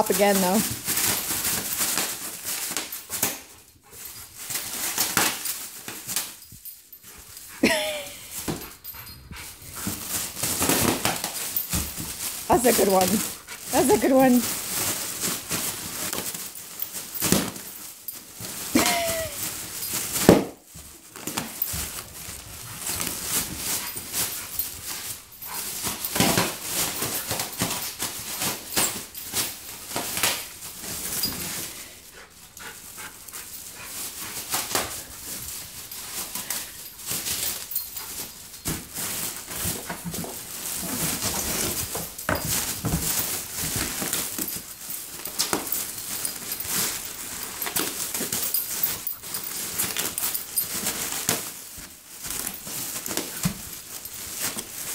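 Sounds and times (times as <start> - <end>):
plastic packing crinkling: 0.0 - 54.9.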